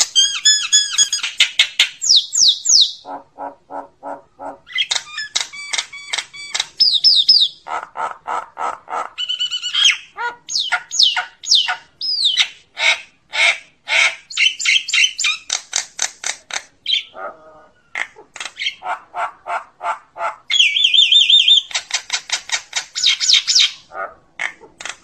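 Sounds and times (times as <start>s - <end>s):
myna whistles and grating calls: 0.0s - 7.7s, 9.1s - 15.7s, 17.8s - 23.9s.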